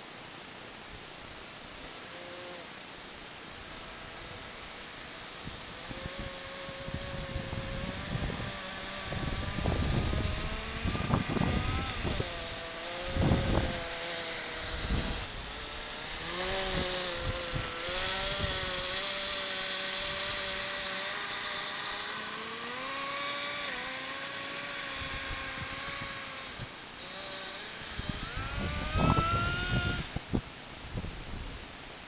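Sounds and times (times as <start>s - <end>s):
small nitro engine whining: 1.8s - 31.5s.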